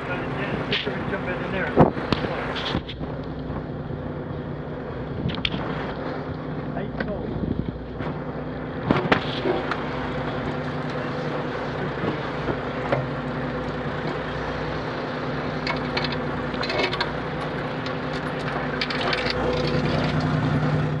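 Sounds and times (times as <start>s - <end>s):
boat engine running: 0.0s - 21.0s
sea noise: 0.0s - 21.0s
wind: 0.0s - 21.0s.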